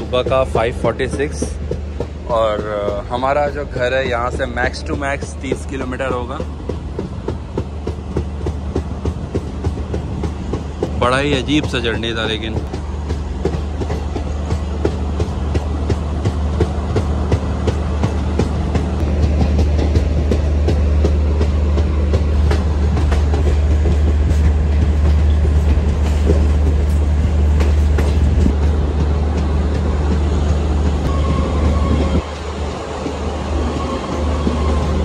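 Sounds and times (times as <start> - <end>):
train wheels rumbling on rail: 0.0 - 35.0
wheels clicking over rail joints: 0.0 - 35.0.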